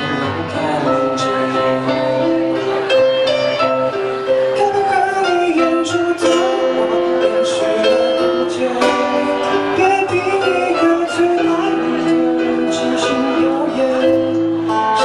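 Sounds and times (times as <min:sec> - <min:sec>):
guitar: 0:00.0 - 0:15.0
keyboard: 0:00.0 - 0:15.0
man singing into a microphone: 0:00.0 - 0:15.0.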